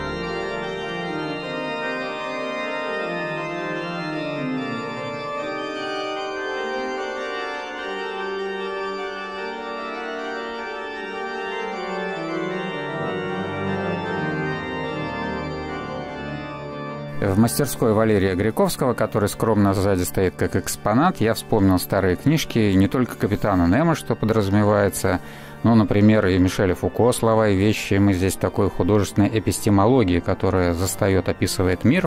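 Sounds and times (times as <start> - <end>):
slow long-held music chords: 0.0 - 32.0.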